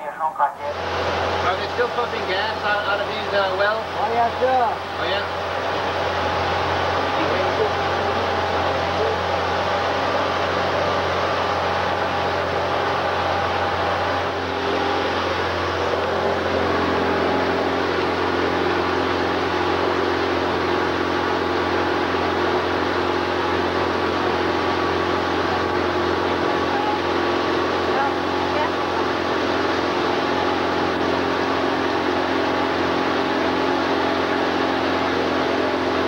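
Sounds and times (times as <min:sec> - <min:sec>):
boat engine running: 0:00.1 - 0:36.0.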